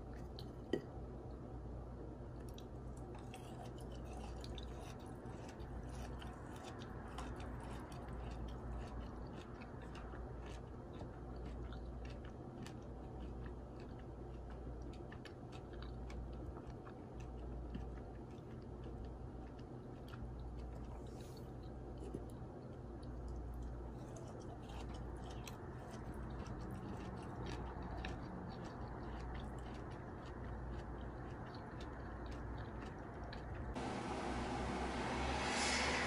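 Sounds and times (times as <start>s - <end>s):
low steady hum: 0.0s - 36.0s
person chewing crunchy nuts: 2.3s - 33.8s.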